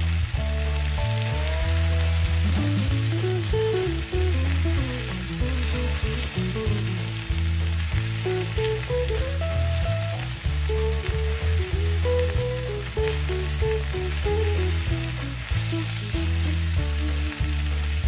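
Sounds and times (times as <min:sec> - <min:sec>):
background music with bass line: 0:00.0 - 0:18.0
vegetables sizzling in a frying pan: 0:00.0 - 0:18.0.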